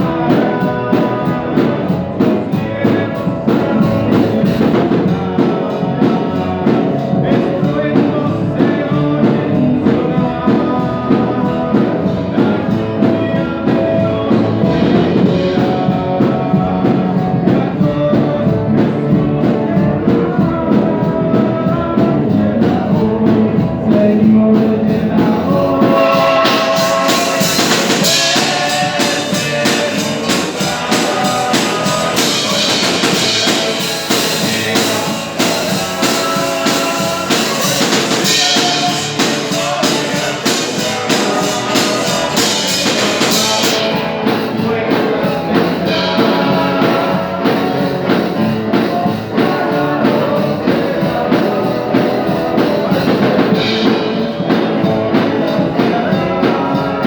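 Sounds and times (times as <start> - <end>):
pop-rock song with singing: 0.0 - 57.0.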